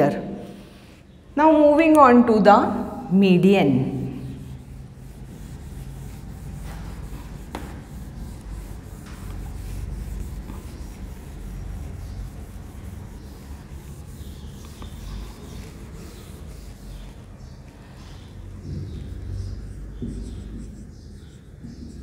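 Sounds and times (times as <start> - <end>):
duster rubbing on whiteboard: 0.0 - 1.2, 3.9 - 22.0
steady low hum: 0.0 - 22.0.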